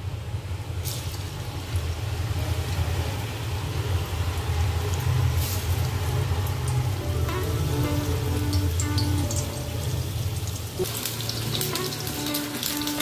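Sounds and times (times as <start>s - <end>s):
food sizzling in hot oil: 0.8s - 13.0s.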